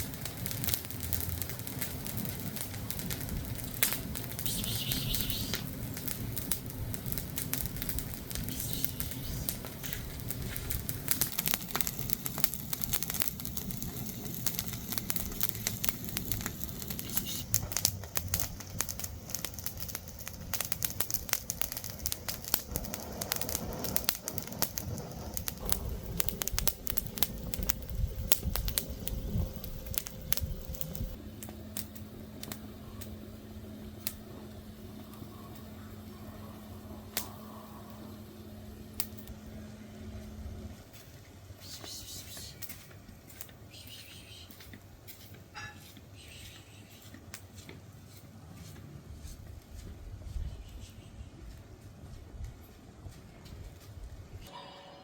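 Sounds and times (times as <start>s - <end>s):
low steady hum: 0.0s - 47.1s
wood fire crackling: 0.0s - 54.6s.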